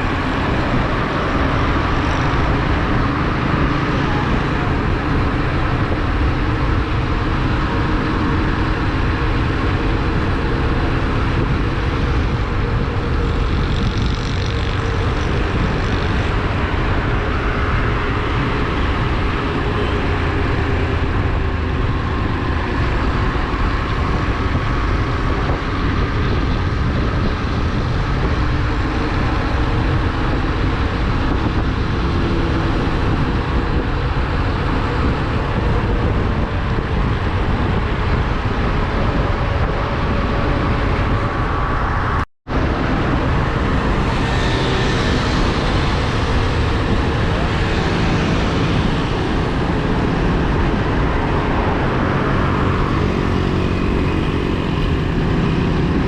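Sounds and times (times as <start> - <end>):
motorcycle engine drone: 0.0 - 56.0
wind rumble on microphone: 0.0 - 56.0.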